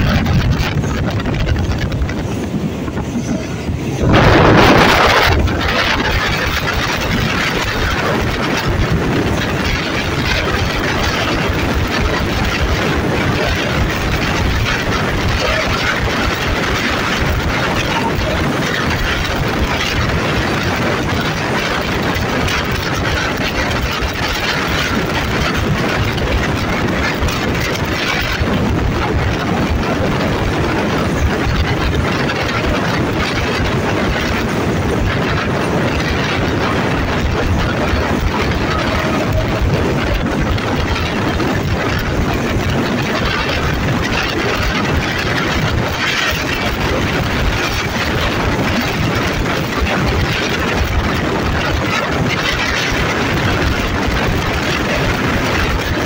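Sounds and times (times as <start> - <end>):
diesel locomotive engine: 0.0 - 56.0
train rolling on rails: 0.0 - 56.0.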